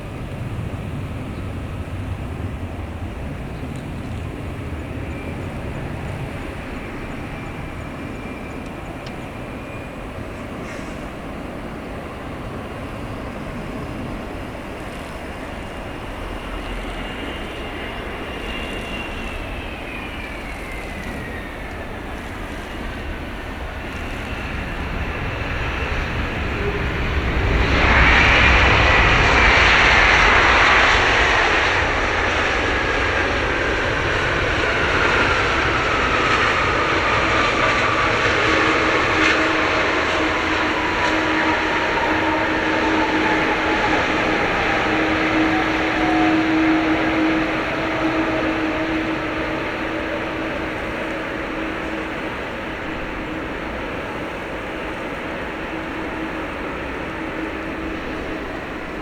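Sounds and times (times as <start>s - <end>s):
jet engine whine: 0.0s - 59.0s
jet roaring on runway: 0.0s - 59.0s.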